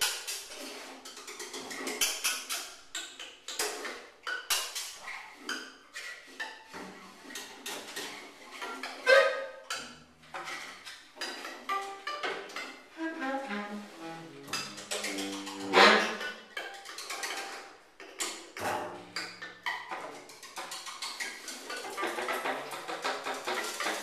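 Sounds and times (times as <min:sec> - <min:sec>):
free improvised music: 0:00.0 - 0:24.0.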